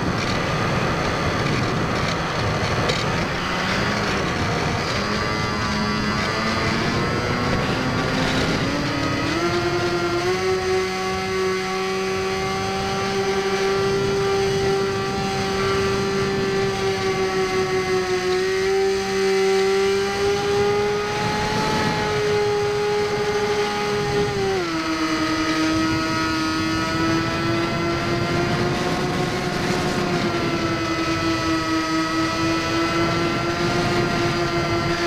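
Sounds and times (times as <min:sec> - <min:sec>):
electric motor and propeller whining: 0:00.0 - 0:35.0.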